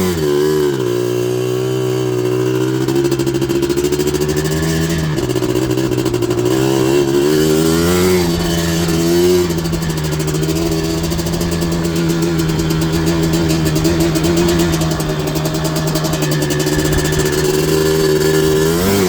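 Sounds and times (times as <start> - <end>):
two-stroke engine running: 0.0 - 19.0.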